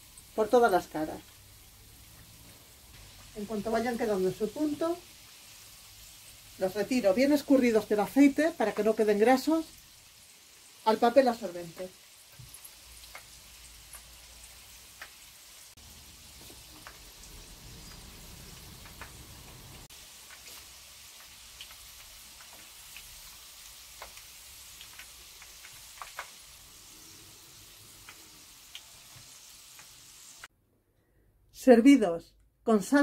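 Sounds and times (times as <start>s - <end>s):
deep-frying sizzle with pops: 0.0s - 30.5s.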